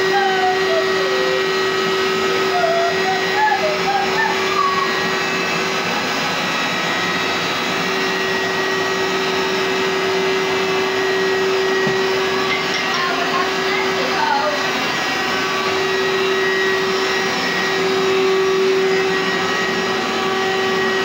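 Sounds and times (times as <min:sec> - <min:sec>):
carpet cleaner suction: 0:00.0 - 0:21.0
steady motor hum: 0:00.0 - 0:21.0.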